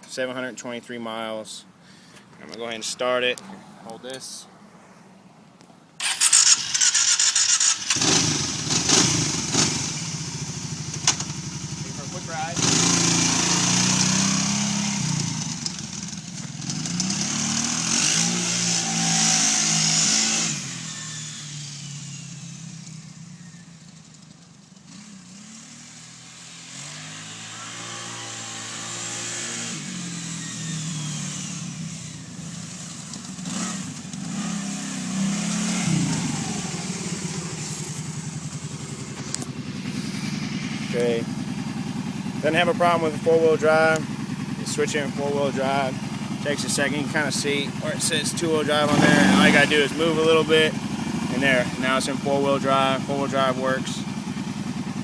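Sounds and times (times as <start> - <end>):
atv engine revving: 6.0 - 55.0.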